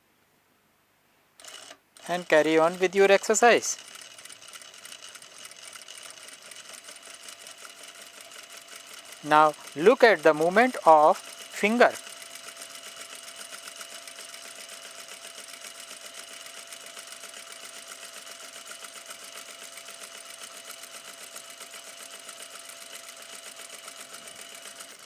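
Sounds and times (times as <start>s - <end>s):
sewing machine ticking: 1.4s - 25.0s.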